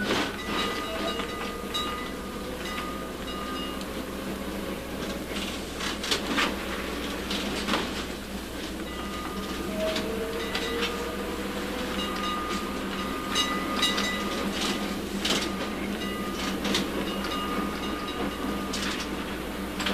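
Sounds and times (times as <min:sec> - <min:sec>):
streetcar rolling rumble: 0:00.0 - 0:19.9.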